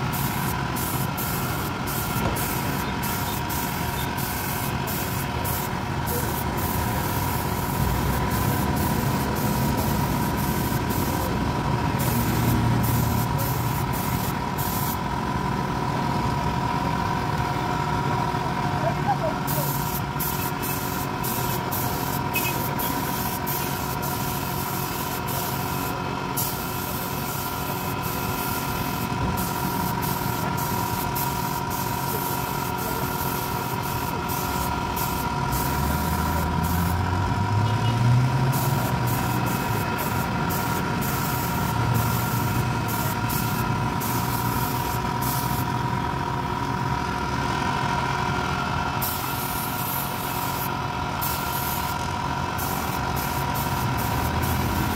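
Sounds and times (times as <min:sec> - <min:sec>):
spray gun hissing: 0:00.0 - 0:11.4, 0:12.0 - 0:15.0, 0:19.4 - 0:37.0, 0:38.5 - 0:45.7, 0:49.0 - 0:52.0, 0:52.6 - 0:54.9
low engine-like hum: 0:00.0 - 0:54.9
steady mechanical drone: 0:00.0 - 0:54.9.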